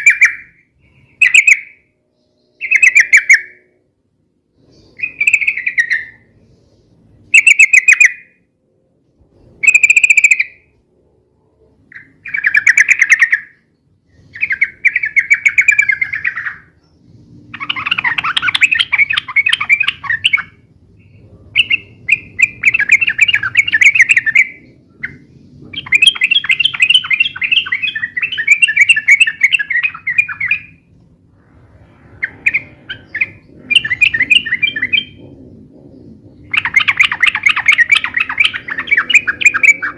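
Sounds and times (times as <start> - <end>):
bulbuls singing: 0.0 - 1.9, 2.5 - 3.8, 4.6 - 8.3, 11.8 - 31.0, 32.0 - 39.9.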